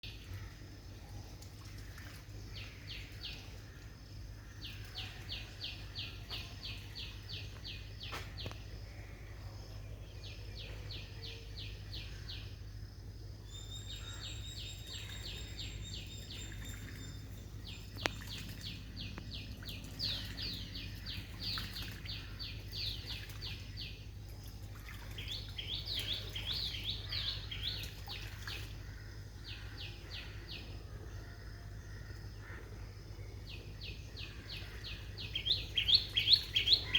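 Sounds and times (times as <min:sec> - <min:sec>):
birds chirping: 0:01.7 - 0:36.9.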